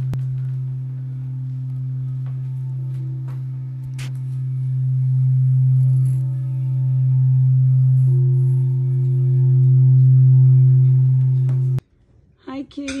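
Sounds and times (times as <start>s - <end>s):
higher singing bowl tone: 0.0s - 11.8s
singing bowl low hum: 0.0s - 11.8s.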